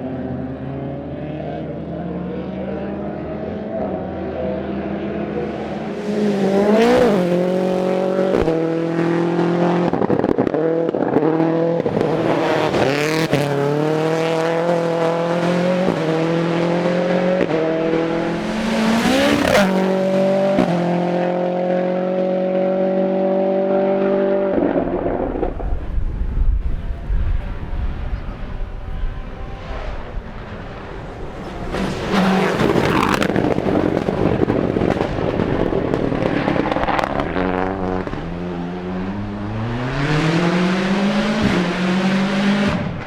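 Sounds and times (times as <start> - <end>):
rally car engine pulling hard: 0.0 - 43.0.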